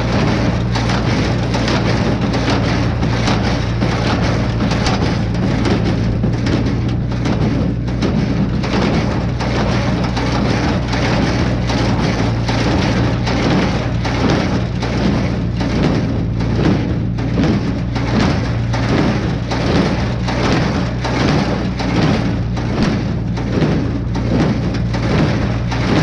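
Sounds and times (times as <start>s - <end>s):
hay baler rattling: 0.0s - 26.0s
tractor engine running: 0.0s - 26.0s.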